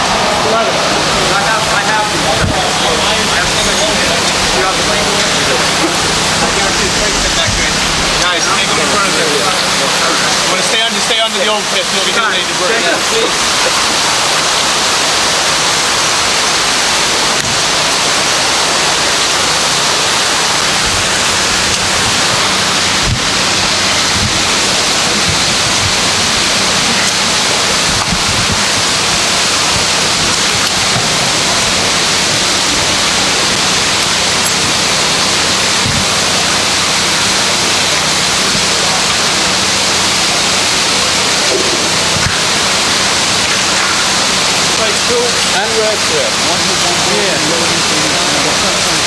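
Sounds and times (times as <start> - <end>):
loud steady hiss: 0.0 - 49.0.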